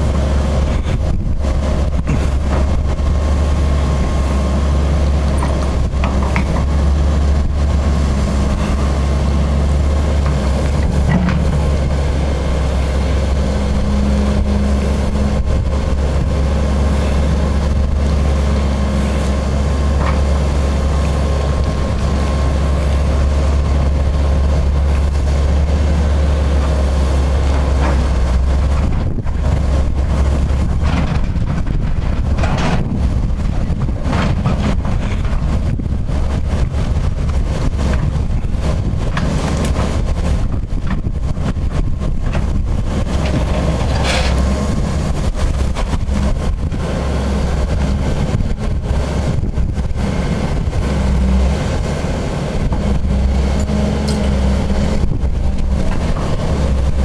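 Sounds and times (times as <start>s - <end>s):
diesel engine rumble: 0.0s - 57.0s.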